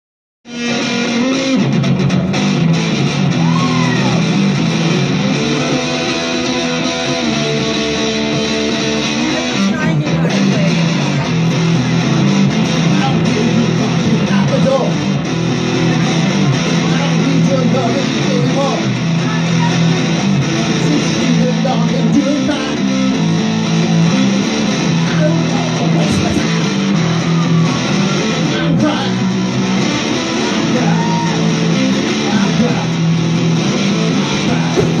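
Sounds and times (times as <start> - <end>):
electric guitar with string bends: 0.5 - 35.0.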